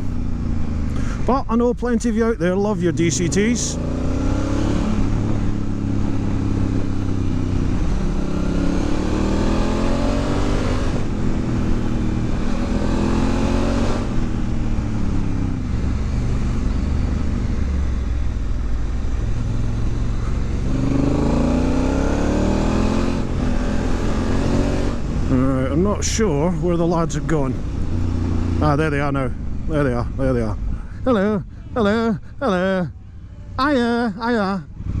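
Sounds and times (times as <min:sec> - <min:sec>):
motorcycle engine accelerating through gears: 0:00.0 - 0:01.3, 0:03.1 - 0:30.7.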